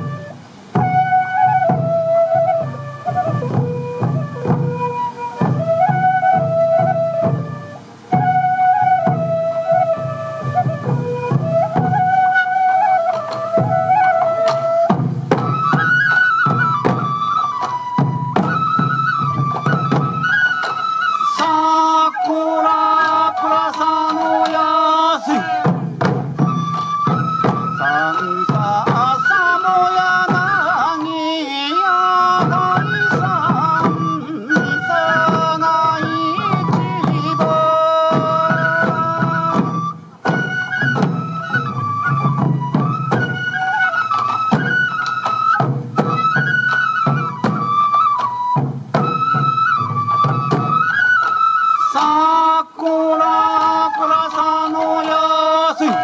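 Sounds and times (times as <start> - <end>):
taiko drum beats: 0.0 - 31.1, 32.0 - 52.2
bamboo flutes playing melody: 0.0 - 56.0.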